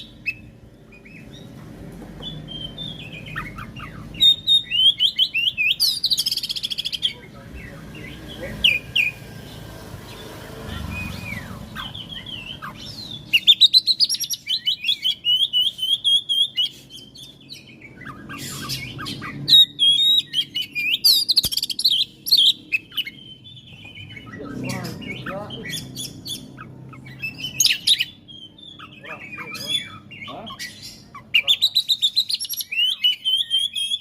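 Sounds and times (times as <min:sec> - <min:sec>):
bird singing whistled notes: 0:02.2 - 0:09.3, 0:10.1 - 0:34.0.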